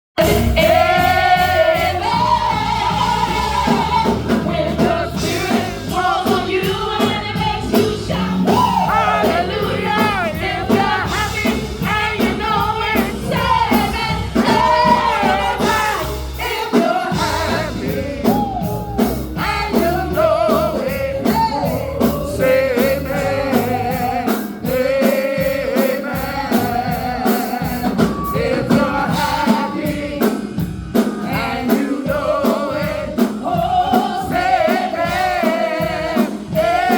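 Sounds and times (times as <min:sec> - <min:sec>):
gospel singing: 0:00.2 - 0:36.9.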